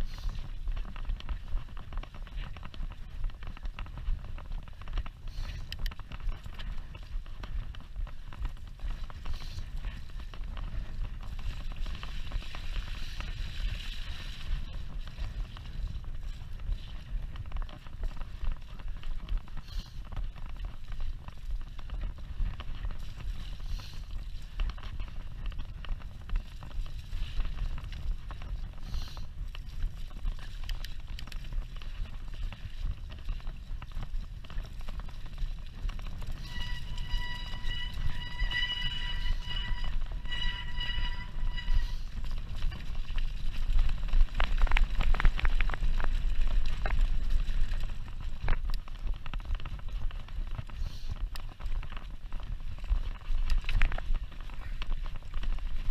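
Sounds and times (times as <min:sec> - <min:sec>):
wind rumbling on microphone: 0:00.0 - 0:55.9.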